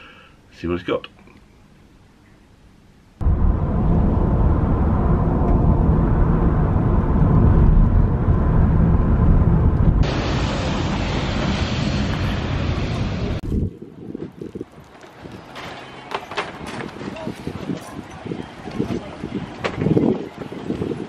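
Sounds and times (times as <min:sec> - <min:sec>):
road and engine rumble: 0:03.1 - 0:21.0.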